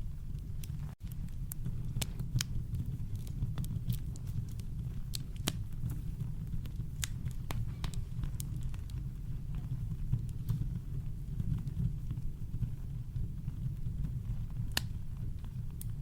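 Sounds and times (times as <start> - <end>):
campfire popping and snapping: 0.0 - 16.0
low rumble of fire: 0.0 - 16.0.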